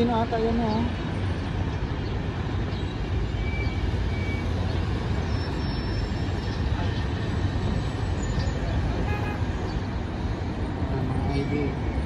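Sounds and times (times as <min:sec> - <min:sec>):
heavy road traffic rumble: 0:00.0 - 0:12.0.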